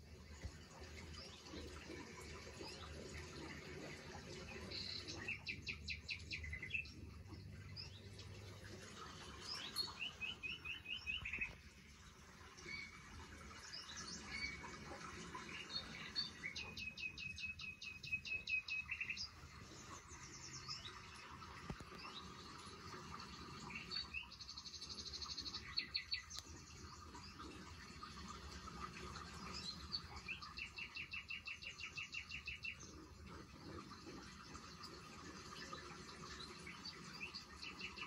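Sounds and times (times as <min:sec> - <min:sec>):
birds chirping rapidly: 0:01.0 - 0:38.0.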